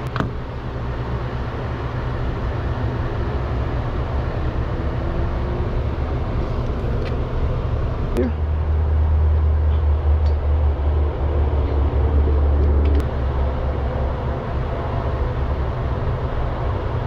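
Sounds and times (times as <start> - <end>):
machine-like low rumble: 0.0 - 17.0.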